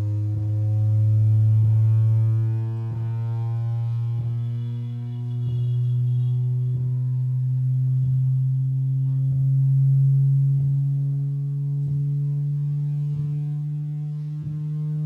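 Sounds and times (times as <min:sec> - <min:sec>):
low bass hum rising in pitch: 0:00.0 - 0:15.0.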